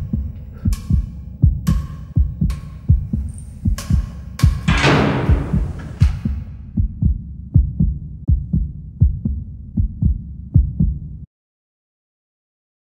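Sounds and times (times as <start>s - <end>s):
heartbeat thumps: 0.0s - 11.1s.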